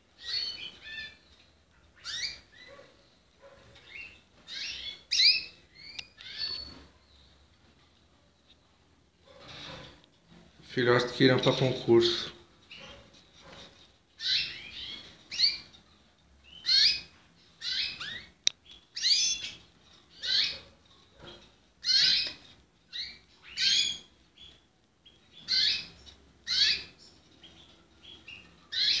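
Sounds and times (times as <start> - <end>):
canaries chirping: 0.0 - 8.5, 9.3 - 29.0.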